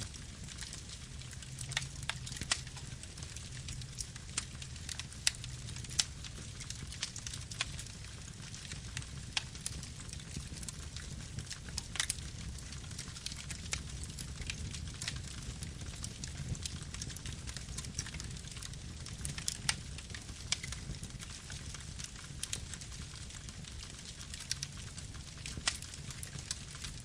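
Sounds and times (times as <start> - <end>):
campfire crackling and popping: 0.0 - 27.0
campfire rumbling: 0.0 - 27.0.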